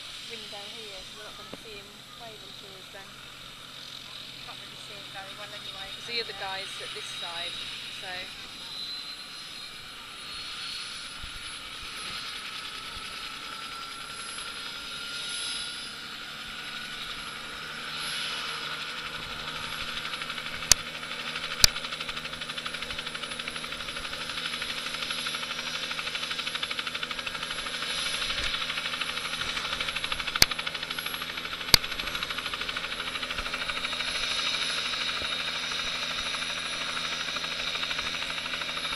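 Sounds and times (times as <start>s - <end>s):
turbine whine: 0.0s - 38.9s.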